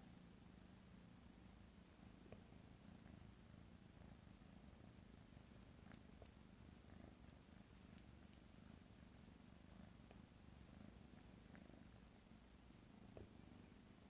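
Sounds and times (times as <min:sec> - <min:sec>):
kitten purring: 0:00.0 - 0:14.0.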